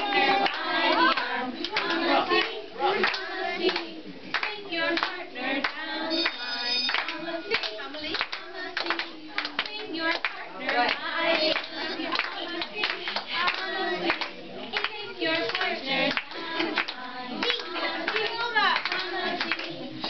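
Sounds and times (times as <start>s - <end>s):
people clapping to a beat: 0.0s - 20.0s
voices singing: 0.0s - 20.0s.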